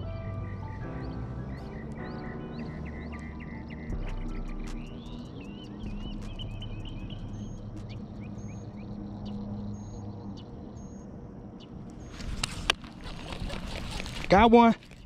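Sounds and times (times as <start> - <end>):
low drone: 0.0 - 14.2
birds chirping: 0.0 - 15.0.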